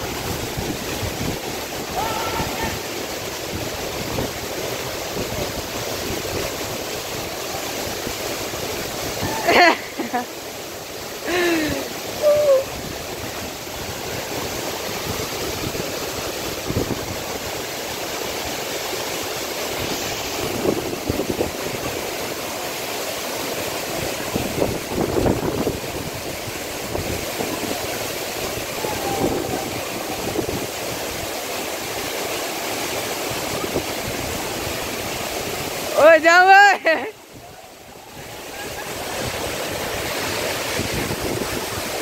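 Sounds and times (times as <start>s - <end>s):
stream rushing: 0.0s - 42.0s
waterfall roaring onto rocks: 0.0s - 42.0s.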